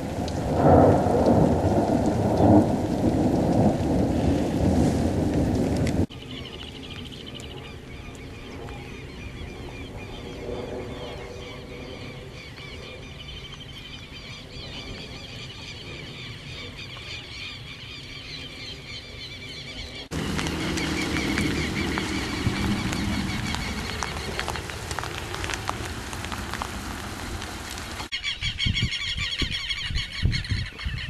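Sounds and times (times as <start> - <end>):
rain: 0.0 - 28.1
birds chirping and calling: 6.1 - 31.0.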